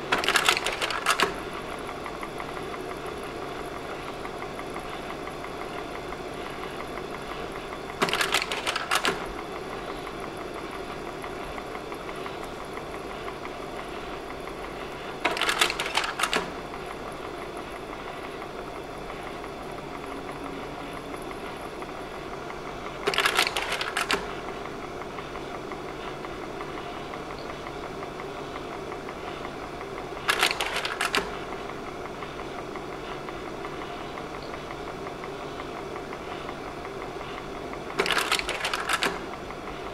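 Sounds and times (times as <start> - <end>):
projector fan hum: 0.0 - 39.9.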